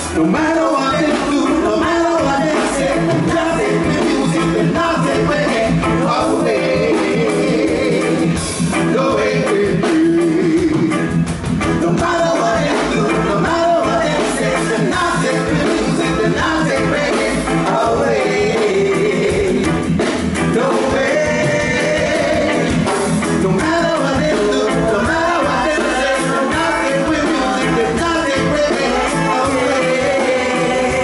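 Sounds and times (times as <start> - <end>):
singers singing together: 0.0 - 11.0, 11.8 - 31.0
live reggae band: 0.0 - 31.0.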